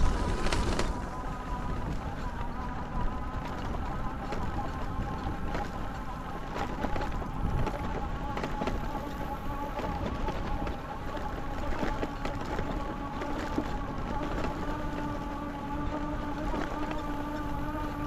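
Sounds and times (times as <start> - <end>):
electric motor whine: 0.0 - 18.0
tyres rumbling on dirt: 0.0 - 18.0.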